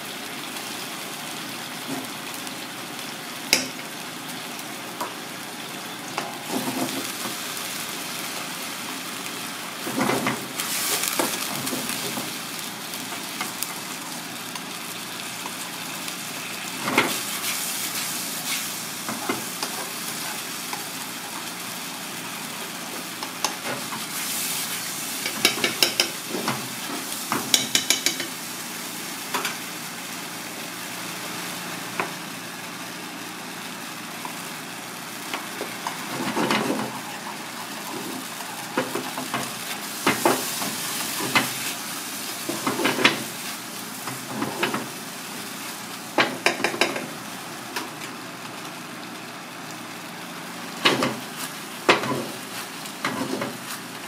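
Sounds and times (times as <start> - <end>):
sauce sizzling and bubbling: 0.0 - 54.0.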